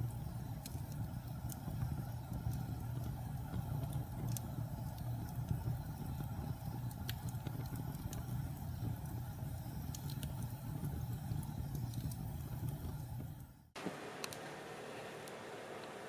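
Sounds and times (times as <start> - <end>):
fire flames rumbling: 0.0 - 13.8
fire crackles: 0.0 - 16.0.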